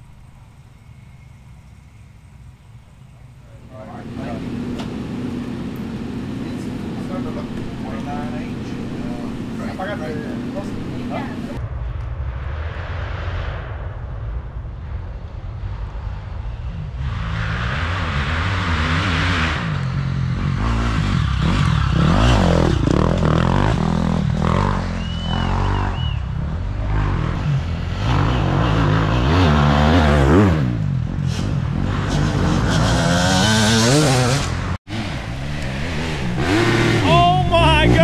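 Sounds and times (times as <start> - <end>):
bikes clattering and scraping: 0.0 - 11.6, 17.0 - 38.0
dirt bike engines revving: 0.0 - 11.6, 16.8 - 38.0.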